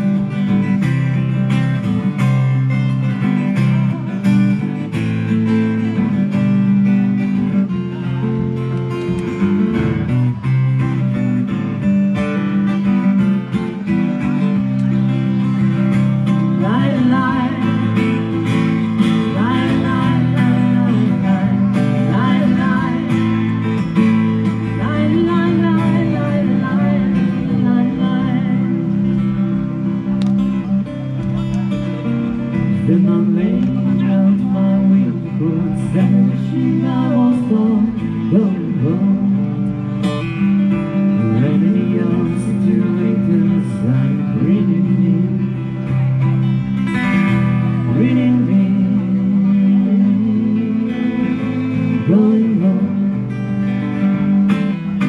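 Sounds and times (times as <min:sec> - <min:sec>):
acoustic guitars strumming: 0:00.0 - 0:55.0.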